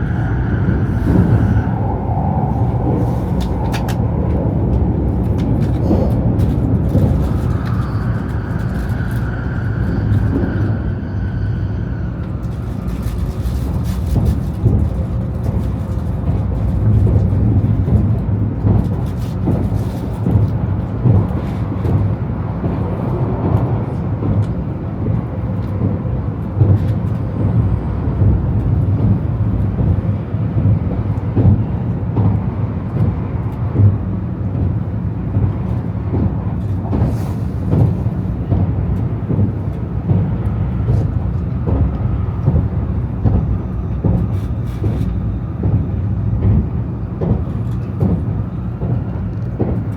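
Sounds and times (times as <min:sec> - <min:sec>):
train cabin rumble: 0:00.0 - 0:49.9.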